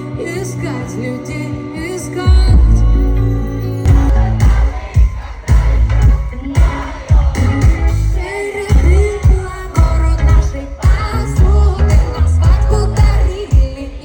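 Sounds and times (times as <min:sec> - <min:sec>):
person singing: 0:00.0 - 0:14.0
bass and drum beat: 0:02.3 - 0:14.0.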